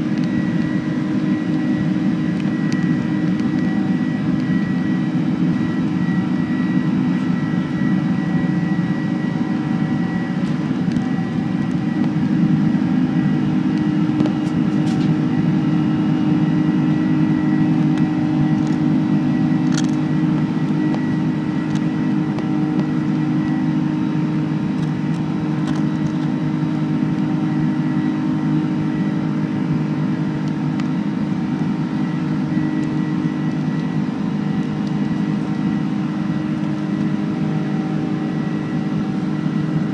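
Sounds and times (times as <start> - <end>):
jet engine drone inside cabin: 0.0 - 39.9.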